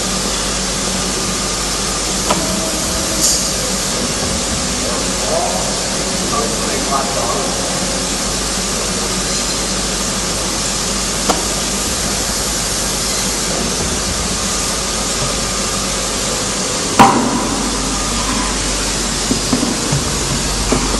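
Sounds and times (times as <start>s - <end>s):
steady hiss: 0.0s - 20.9s.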